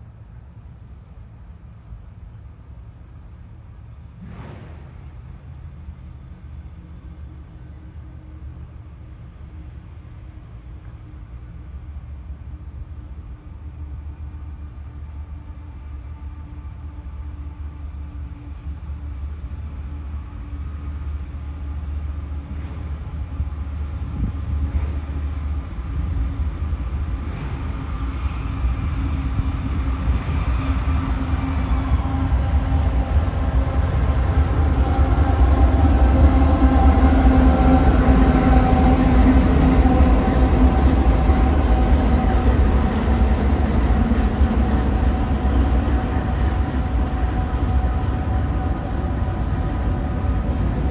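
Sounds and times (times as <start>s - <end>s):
diesel locomotive engine drone: 0.0s - 50.9s.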